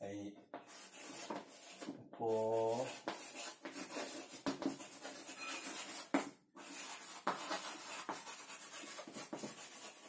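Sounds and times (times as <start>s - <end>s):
chalk scratching on blackboard: 0.6s - 10.0s.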